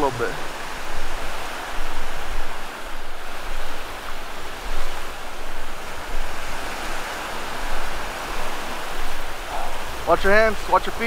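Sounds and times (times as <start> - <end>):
surf washing up beach: 0.0 - 11.0
wind rumbling on microphone: 0.0 - 11.0.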